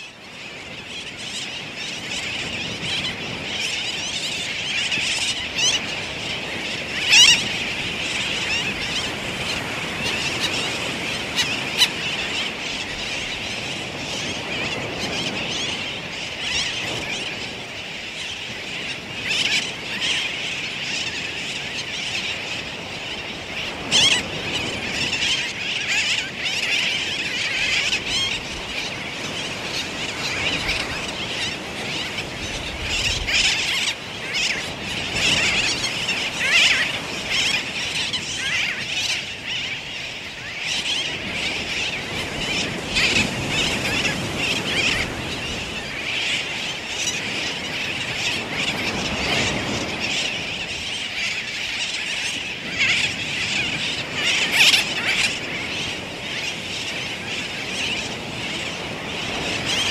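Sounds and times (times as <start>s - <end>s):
colony of terns calling: 0.0s - 59.9s.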